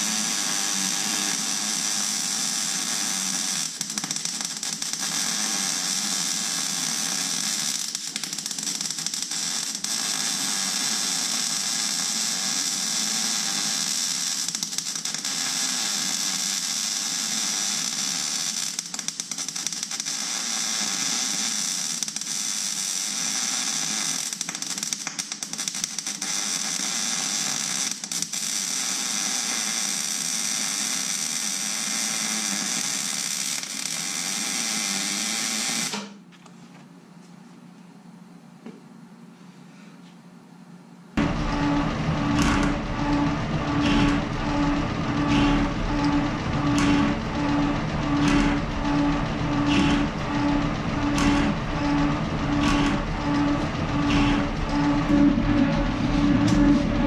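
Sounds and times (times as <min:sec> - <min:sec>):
welding arc crackling: 0:00.0 - 0:35.2, 0:41.2 - 0:57.0.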